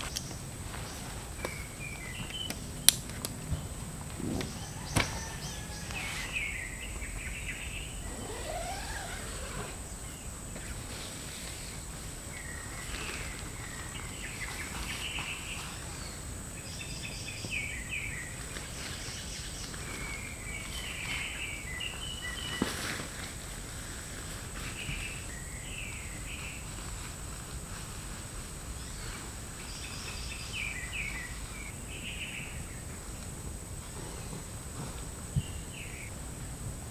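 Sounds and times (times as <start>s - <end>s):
birds chirping: 0.0s - 22.8s, 28.4s - 36.9s.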